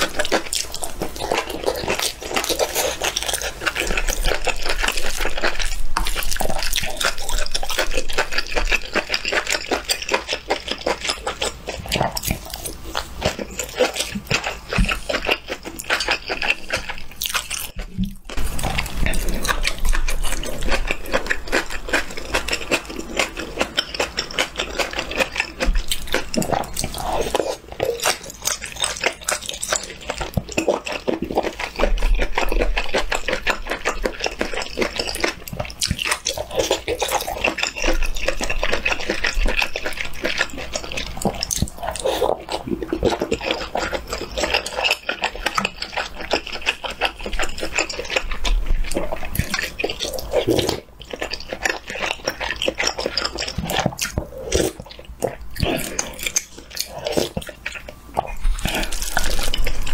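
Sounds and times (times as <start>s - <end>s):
wet chewing and mouth smacks: 0.0s - 59.9s.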